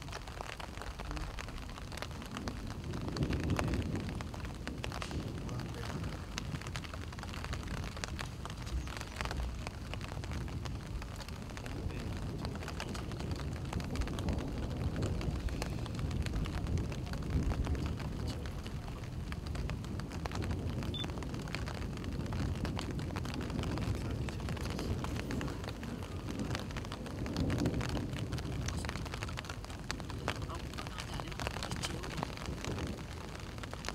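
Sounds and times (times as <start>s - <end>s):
small ticks and crackles: 0.0s - 33.9s
steady low rumble: 0.0s - 33.9s.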